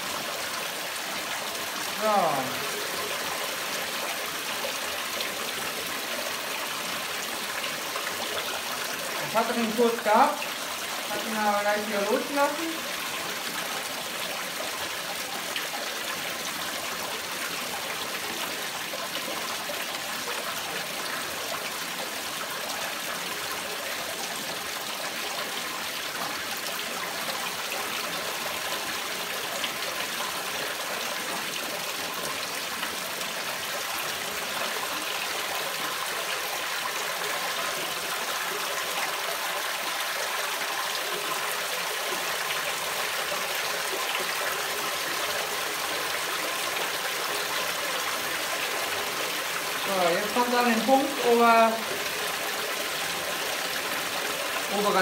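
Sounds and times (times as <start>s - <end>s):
water rushing and splashing: 0.0s - 55.0s.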